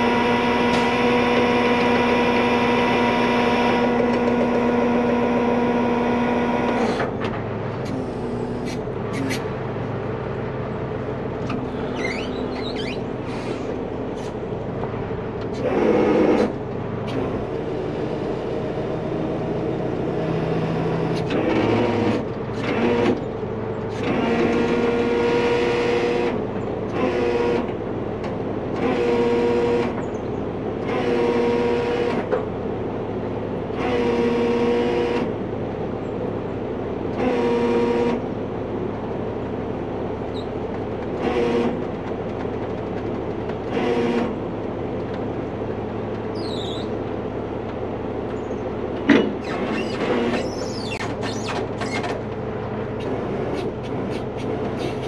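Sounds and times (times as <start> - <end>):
hydraulic whine: 0.0 - 35.6, 37.0 - 38.8, 39.5 - 55.0
diesel engine under load: 0.0 - 55.0.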